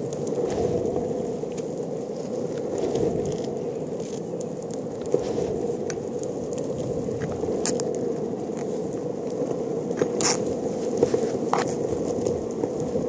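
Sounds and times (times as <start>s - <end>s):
longboard wheels rolling on tarmac: 0.0s - 13.0s
wheels clicking over grit: 0.0s - 13.0s.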